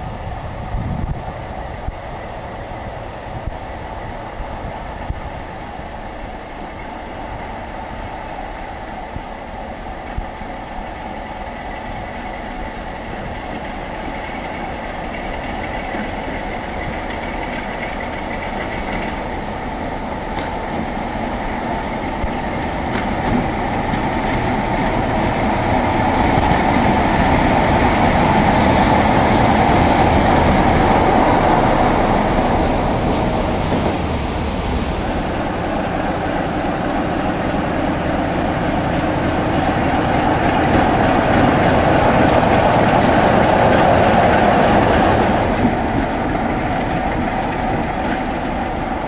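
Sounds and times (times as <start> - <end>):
diesel locomotive engine running: 0.0 - 49.0.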